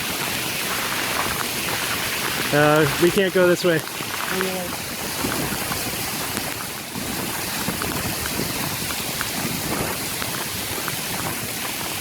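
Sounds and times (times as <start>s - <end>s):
hailstones ticking: 0.0s - 12.0s
heavy hail hissing: 0.0s - 12.0s.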